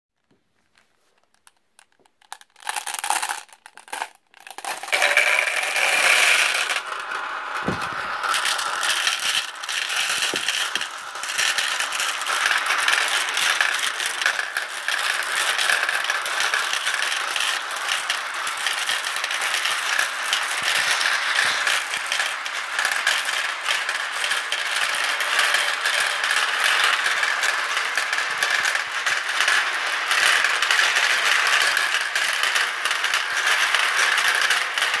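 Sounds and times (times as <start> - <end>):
marbles rattling in plastic marble run: 1.3 - 35.0.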